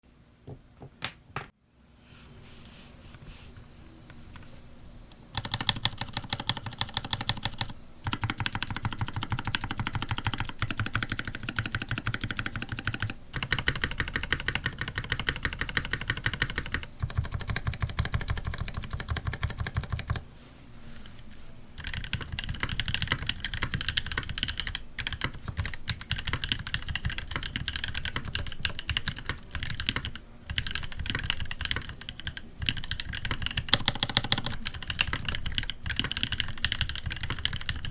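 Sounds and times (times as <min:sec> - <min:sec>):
fast mechanical keyboard typing: 0:05.3 - 0:20.2, 0:21.8 - 0:37.9.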